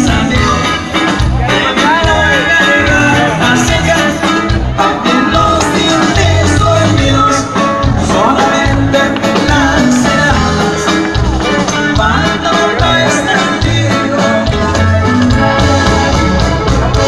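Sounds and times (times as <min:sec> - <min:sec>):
band playing loud live music: 0:00.0 - 0:17.0.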